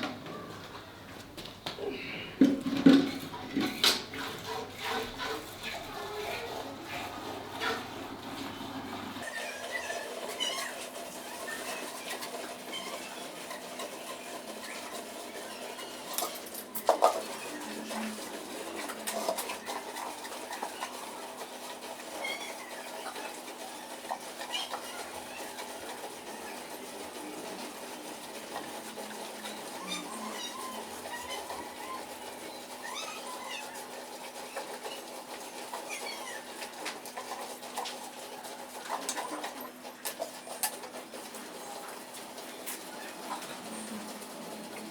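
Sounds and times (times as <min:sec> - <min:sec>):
milking machine humming: 0:00.0 - 0:44.9.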